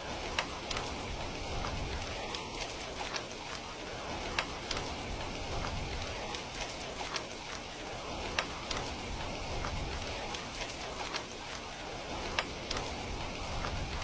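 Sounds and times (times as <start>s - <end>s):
heavy rain hissing: 0.0s - 14.0s
raindrops ticking: 0.0s - 14.0s.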